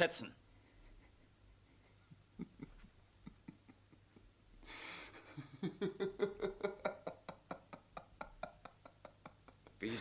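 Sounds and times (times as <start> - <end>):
man laughing: 1.8 - 10.0.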